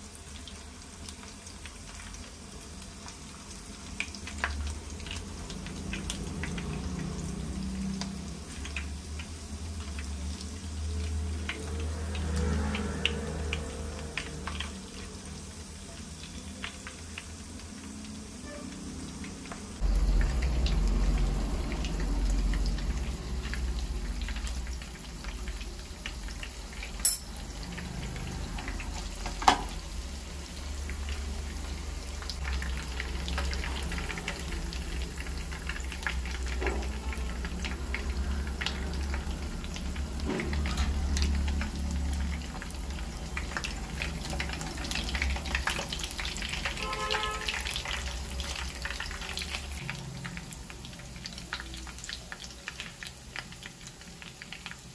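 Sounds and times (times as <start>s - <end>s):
oil sizzling and crackling: 0.0s - 54.9s.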